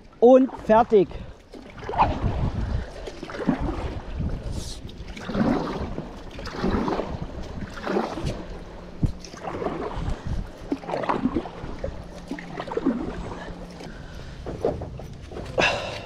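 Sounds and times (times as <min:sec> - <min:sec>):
paddle strokes splashing water: 0:00.0 - 0:16.0.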